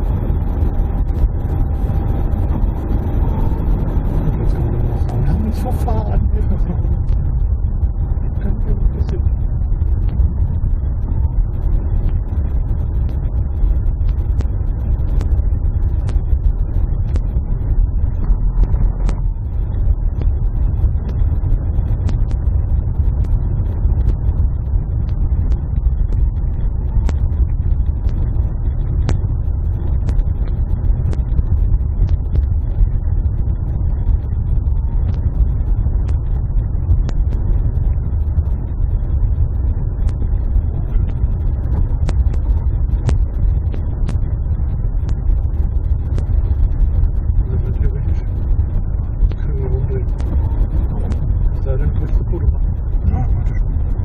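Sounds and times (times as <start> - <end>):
car engine and tyre rumble: 0.0 - 54.0
small clicks and ticks: 0.0 - 54.0.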